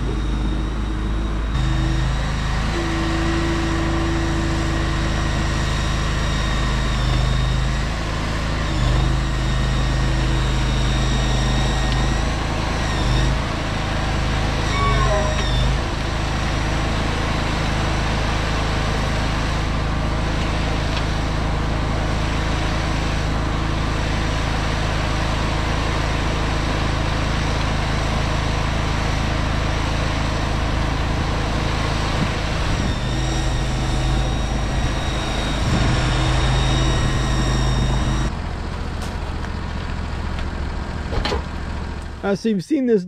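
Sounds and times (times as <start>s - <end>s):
whine: 0.0s - 40.5s
skid steer engine running: 0.0s - 43.0s.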